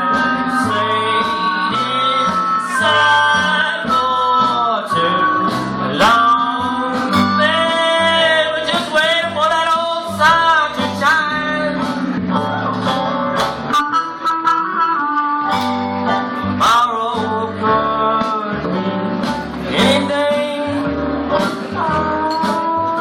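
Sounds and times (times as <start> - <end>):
bass: 0.0 - 23.0
strummed guitar: 0.0 - 23.0.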